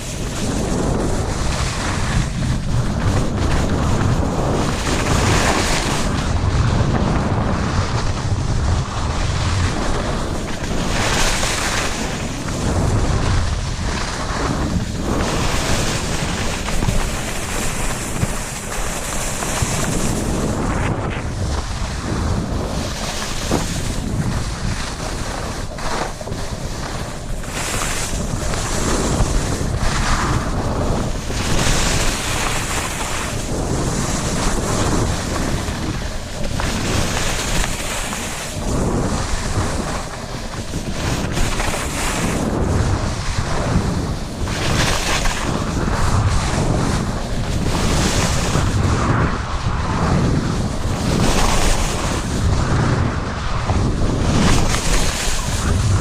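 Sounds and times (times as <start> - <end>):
skis scraping on snow: 0.0 - 56.0
wind buffeting microphone: 0.0 - 56.0.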